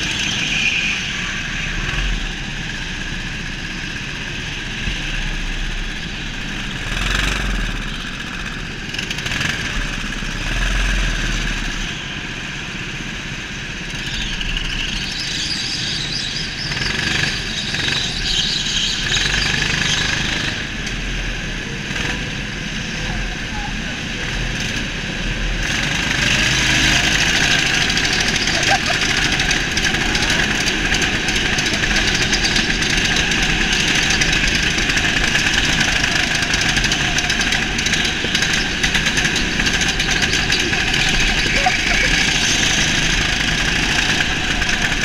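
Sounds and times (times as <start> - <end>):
go-kart engines racing: 0.0 - 45.0.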